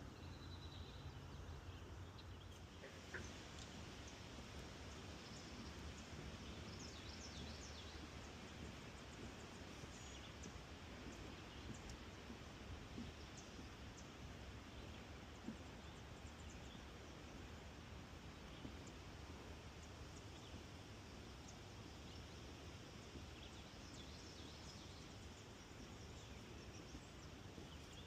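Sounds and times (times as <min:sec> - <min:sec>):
distant birds chirping: 0:00.0 - 0:28.0
soft steady hiss: 0:00.0 - 0:28.0.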